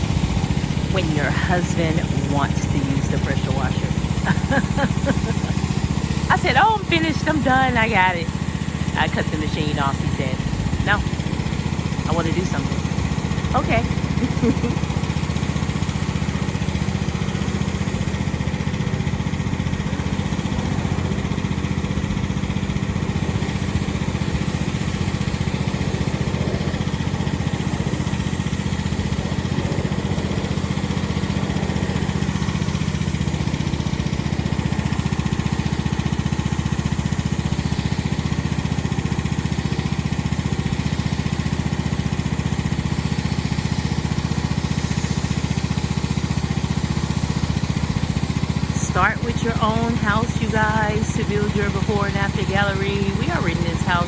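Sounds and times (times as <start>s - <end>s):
pressure washer engine humming: 0.0s - 54.0s.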